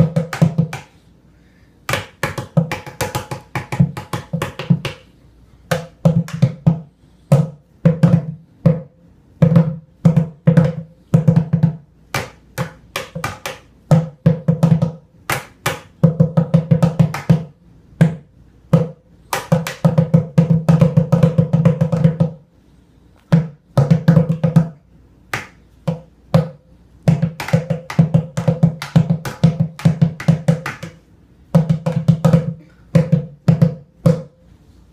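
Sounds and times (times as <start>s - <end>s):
drumsticks beating a bucket: 0.0s - 1.0s, 1.9s - 5.1s, 9.4s - 22.4s, 23.2s - 34.3s.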